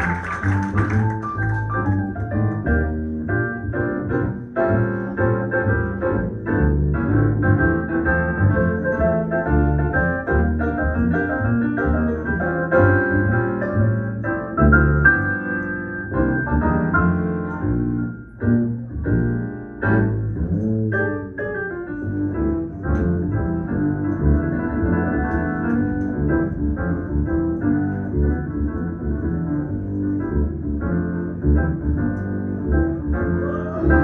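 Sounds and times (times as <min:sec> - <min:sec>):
low bass line: 0:00.0 - 0:15.4, 0:16.0 - 0:34.0
jazz keyboard chords: 0:00.0 - 0:34.0.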